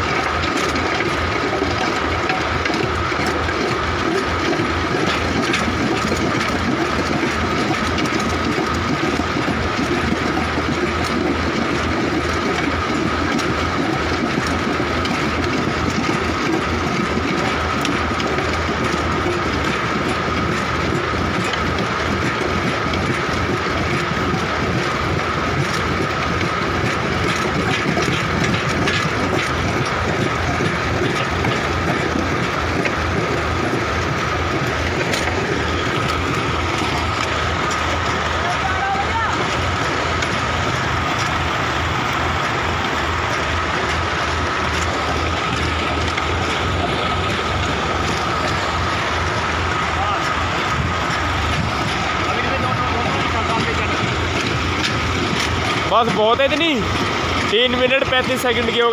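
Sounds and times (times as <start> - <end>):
auger drilling into stony soil: 0.0 - 58.9
tractor running: 0.0 - 58.9.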